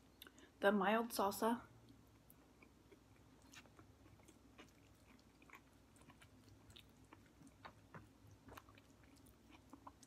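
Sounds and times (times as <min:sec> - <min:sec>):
person chewing food: 0:01.8 - 0:10.0.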